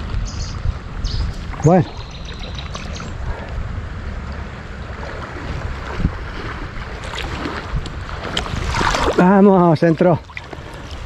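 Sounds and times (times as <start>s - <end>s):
wind buffeting microphone: 0.0s - 11.0s
river water rushing: 0.8s - 11.0s.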